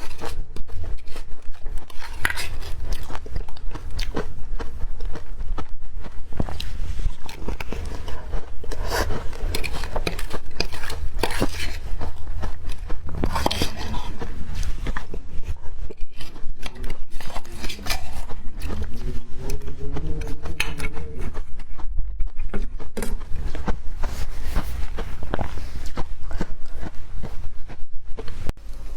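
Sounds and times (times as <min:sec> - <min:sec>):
crunching and chewing ice: 0:00.0 - 0:28.5.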